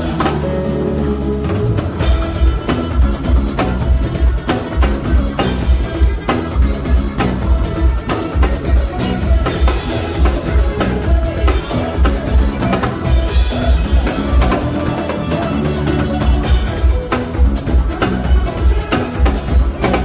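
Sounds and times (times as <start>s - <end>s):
drum kit beat: 0.0s - 20.0s
heavy pulsing bass line: 0.0s - 20.0s.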